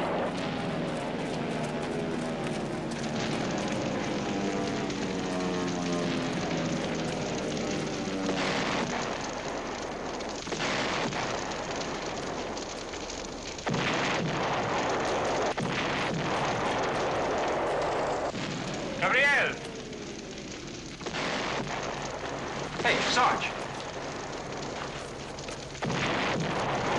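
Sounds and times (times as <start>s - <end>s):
explosion blasts: 0.0s - 26.9s
steady rushing noise: 0.0s - 26.9s.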